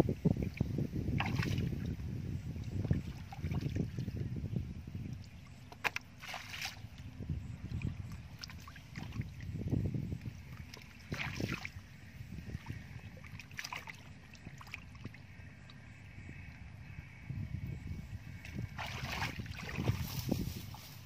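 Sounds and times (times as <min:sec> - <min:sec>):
muddy water sloshing and splashing: 0:00.3 - 0:15.9, 0:18.3 - 0:21.0.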